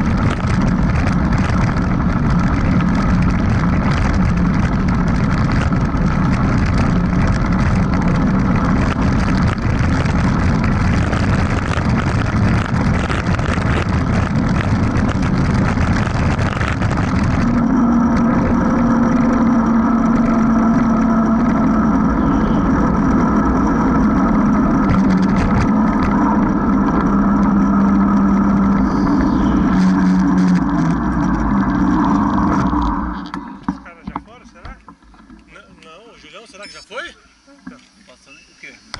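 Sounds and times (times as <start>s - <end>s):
wind rushing over microphone: 0.0s - 34.0s
tyres rattling on dirt: 0.0s - 37.2s
tyre hum on asphalt: 0.0s - 38.9s.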